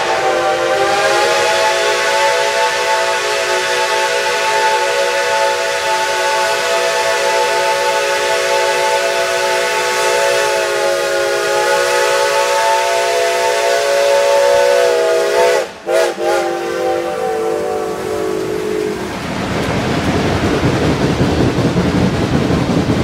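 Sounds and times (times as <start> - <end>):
steam locomotive whistle: 0.0 - 19.1.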